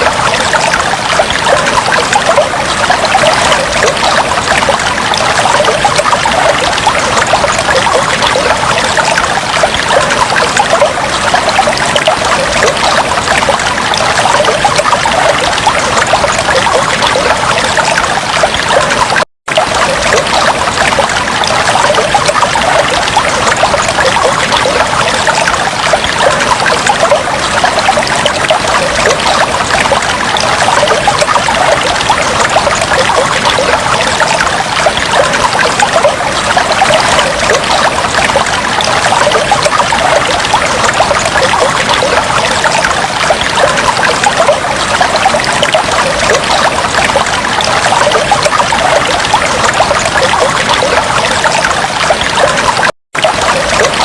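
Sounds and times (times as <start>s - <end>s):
aquarium water trickling: 0.0s - 54.0s.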